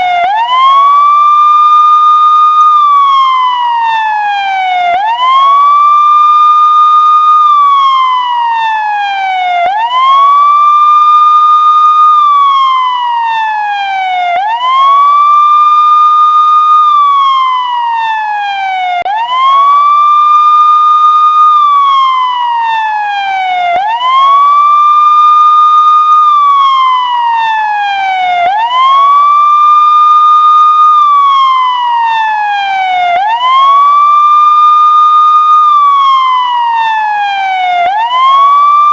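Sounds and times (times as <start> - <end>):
siren wailing: 0.0 - 38.9.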